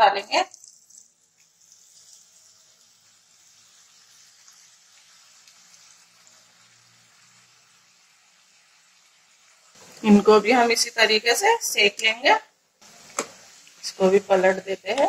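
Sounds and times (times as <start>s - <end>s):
food deep-frying in oil: 0.0s - 15.0s.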